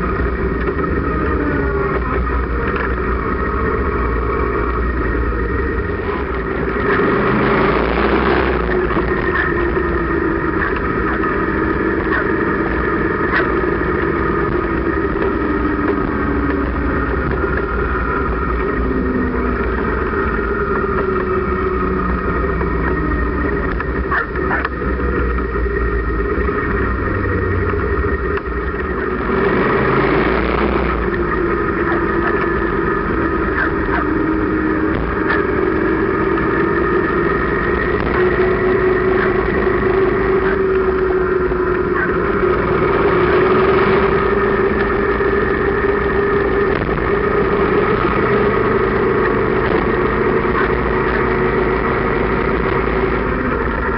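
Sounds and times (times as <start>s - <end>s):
motorcycle engine running: 0.0s - 53.9s
road and wind noise: 0.0s - 53.9s.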